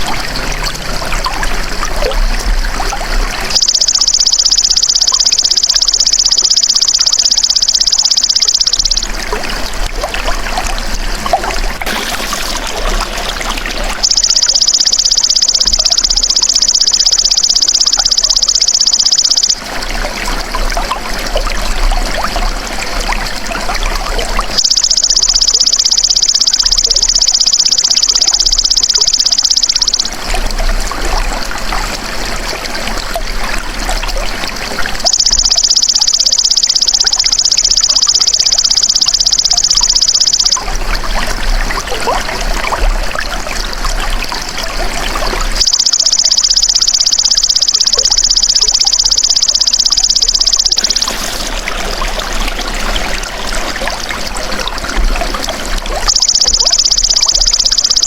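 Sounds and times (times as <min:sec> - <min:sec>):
trickling water: 0:00.0 - 0:58.0.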